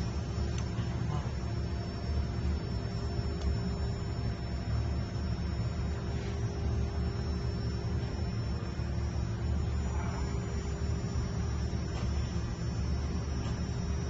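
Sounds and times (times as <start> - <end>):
faint steady tones: 0.0 - 14.0
low electrical hum: 0.0 - 14.0.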